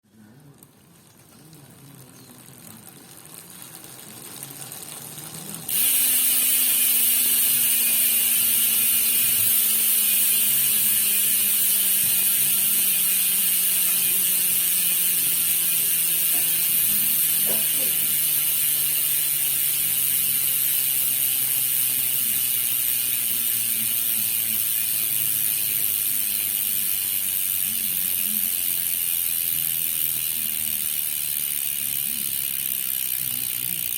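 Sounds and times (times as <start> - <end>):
bicycle freehub buzzing: 0.6 - 33.9.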